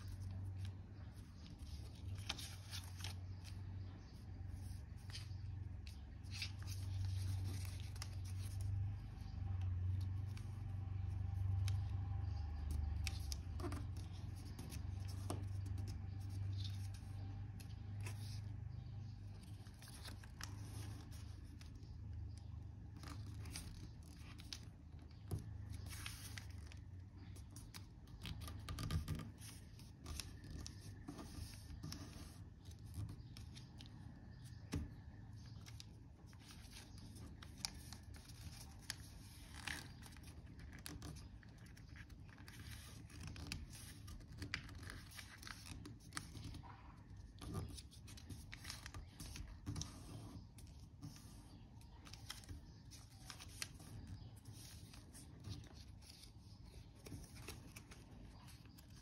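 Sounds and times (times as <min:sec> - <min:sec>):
paper crinkling and rustling: 0:00.0 - 0:59.0.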